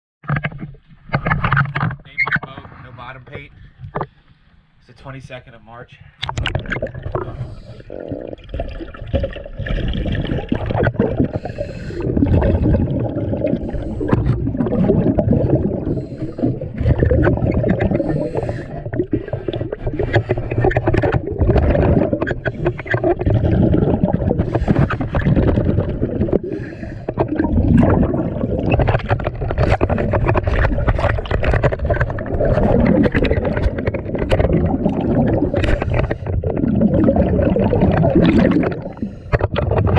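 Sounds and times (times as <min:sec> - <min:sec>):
small underwater clicks: 0:06.2 - 0:39.9
underwater gurgling rumble: 0:06.2 - 0:39.9.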